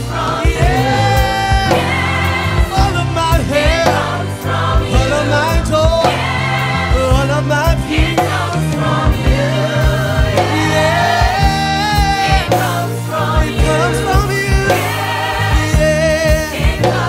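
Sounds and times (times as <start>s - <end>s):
bass line: 0.0s - 17.0s
drum beat: 0.0s - 17.0s
gospel choir singing: 0.0s - 17.0s.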